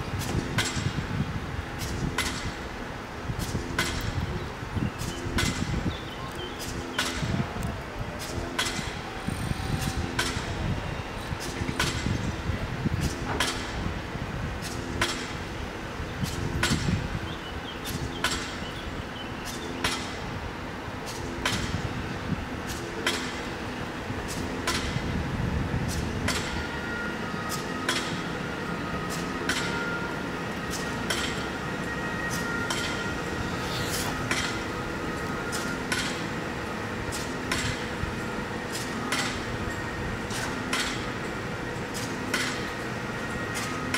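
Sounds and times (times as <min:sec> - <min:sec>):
train high whining tones: 0:00.0 - 0:43.9
train rumbling: 0:00.0 - 0:43.9.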